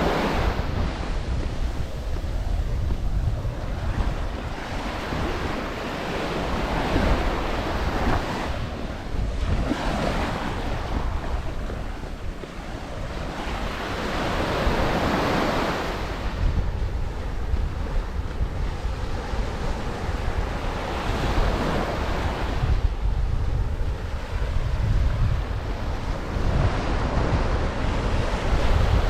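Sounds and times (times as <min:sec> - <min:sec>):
ocean surf breaking: 0:00.0 - 0:29.0
wind buffeting microphone: 0:00.0 - 0:29.0.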